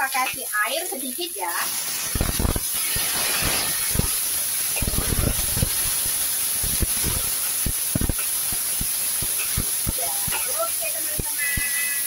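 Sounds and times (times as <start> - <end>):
water sizzling in hot wok: 0.0 - 12.0.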